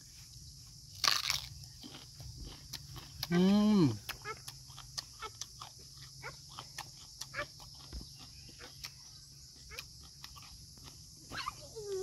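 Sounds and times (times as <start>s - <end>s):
high insect drone: 0.0s - 12.0s
chewing with wet mouth clicks: 1.0s - 11.2s.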